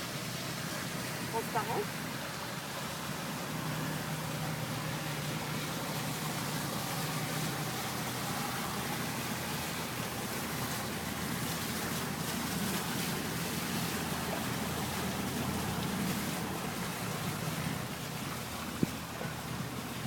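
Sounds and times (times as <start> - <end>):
boat motor drone: 0.0 - 20.0
water rushing: 0.0 - 20.0.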